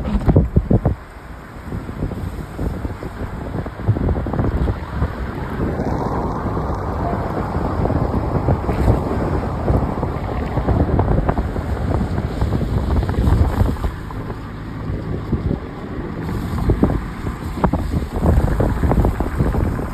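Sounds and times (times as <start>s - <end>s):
road and vehicle rumble: 0.0s - 19.9s
wind buffeting microphone: 0.0s - 19.9s.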